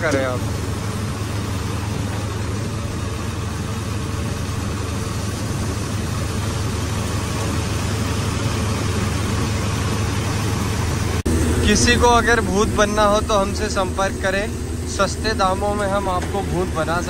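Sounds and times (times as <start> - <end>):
low hum of thresher drive: 0.0 - 17.0.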